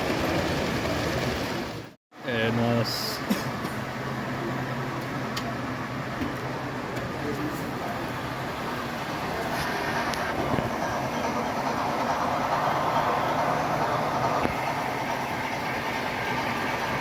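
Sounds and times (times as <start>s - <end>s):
model train wheels rumbling on track: 0.0s - 1.9s, 4.5s - 17.0s.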